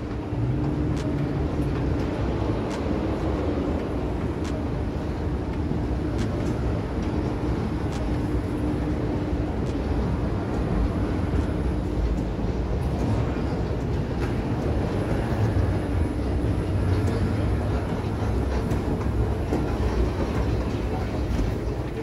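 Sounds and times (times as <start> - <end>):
escalator rumble and hum: 0.0 - 22.0.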